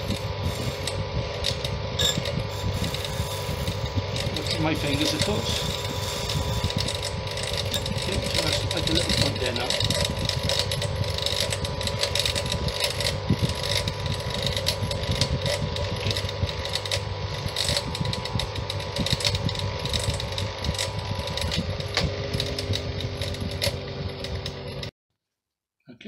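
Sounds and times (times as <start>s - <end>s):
brass rod grinding against stone: 0.0s - 24.2s
bench grinder motor hum: 0.0s - 24.9s.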